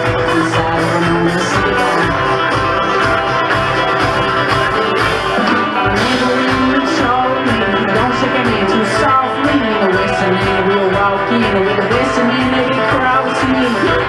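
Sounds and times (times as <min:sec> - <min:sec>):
acoustic guitar plucked: 0:00.0 - 0:14.0
sliding lead melody: 0:00.0 - 0:14.0
upright bass: 0:00.0 - 0:14.0.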